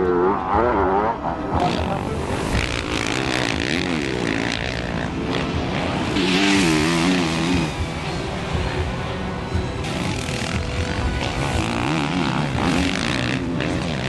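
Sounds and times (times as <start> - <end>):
motocross bike engines revving: 0.0 - 8.9, 9.8 - 14.0.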